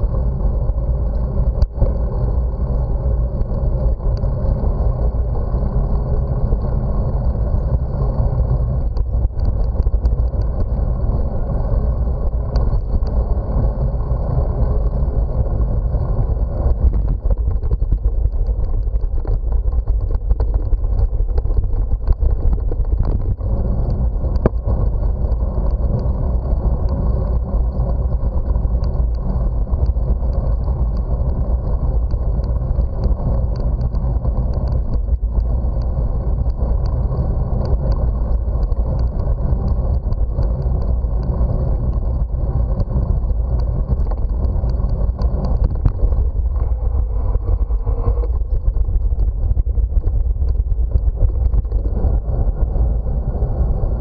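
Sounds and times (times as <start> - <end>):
wind rumbling on microphone: 0.0 - 54.0
tyres rolling on asphalt: 0.1 - 54.0.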